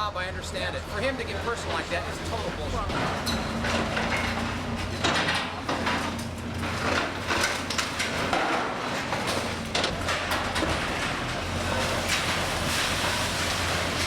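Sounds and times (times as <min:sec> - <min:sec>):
heavy machine engine running: 0:00.0 - 0:14.0
debris crunching and scraping: 0:01.4 - 0:14.0.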